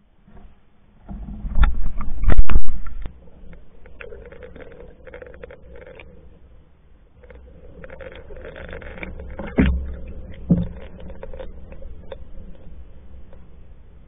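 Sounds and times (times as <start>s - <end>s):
water gurgling along canoe hull: 1.0s - 14.0s
small clicks: 1.5s - 6.5s, 7.2s - 13.6s.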